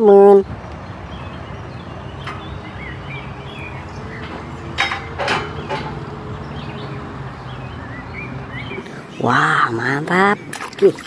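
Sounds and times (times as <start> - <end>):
birds chirping: 0.0 - 11.0
diesel engine idling: 0.4 - 9.5.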